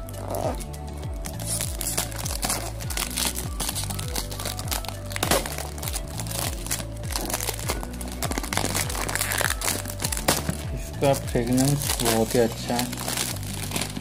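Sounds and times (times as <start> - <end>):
background music with bass beat: 0.0 - 14.0
plastic wrap crinkling: 0.0 - 14.0.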